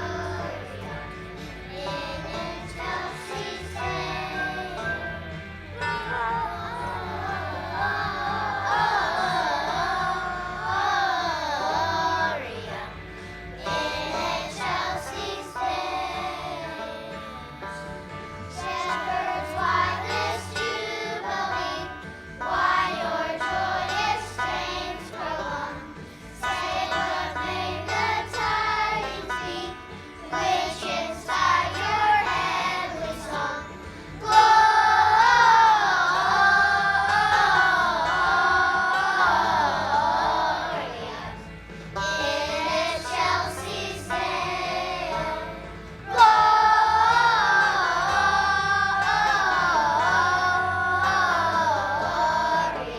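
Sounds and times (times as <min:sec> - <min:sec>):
children's choir singing: 0:00.0 - 0:52.9
instrumental accompaniment: 0:00.0 - 0:52.9.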